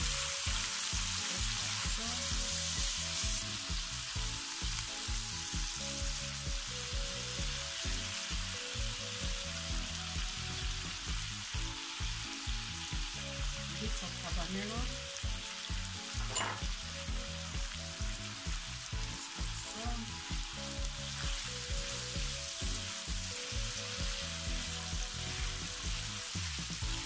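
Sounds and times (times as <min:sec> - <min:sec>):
background music with low beat: 0:00.0 - 0:27.0
vegetables sizzling in oil: 0:00.0 - 0:27.0.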